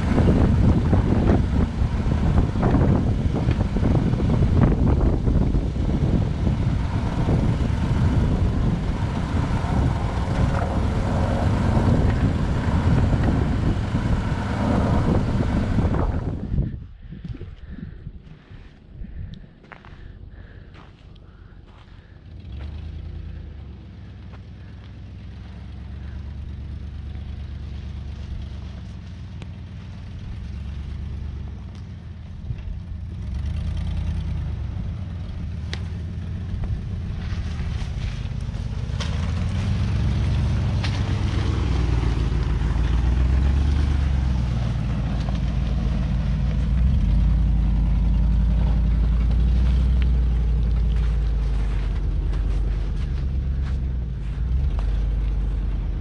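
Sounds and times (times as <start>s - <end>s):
tyres crackling on snow: 0.0s - 56.0s
vehicle engine running at low speed: 0.0s - 56.0s.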